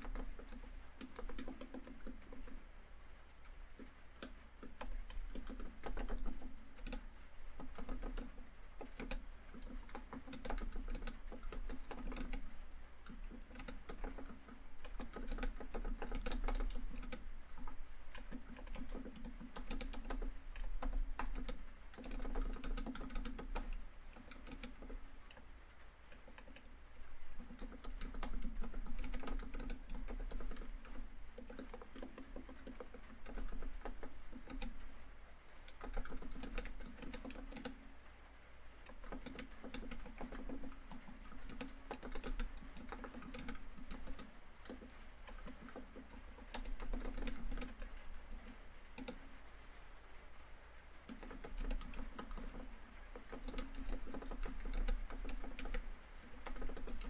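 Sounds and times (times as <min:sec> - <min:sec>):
laptop keyboard typing: 0:00.0 - 0:38.0, 0:38.7 - 0:50.0, 0:50.9 - 0:57.0.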